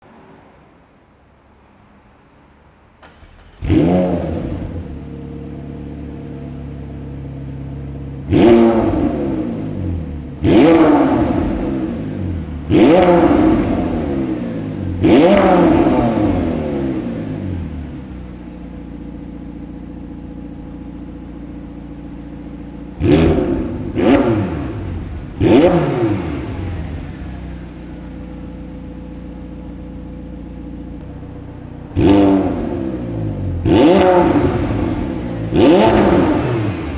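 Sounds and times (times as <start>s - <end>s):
car engine starting: 0.1s - 36.9s
car engine idling: 0.9s - 36.9s
car engine revving: 3.0s - 36.9s.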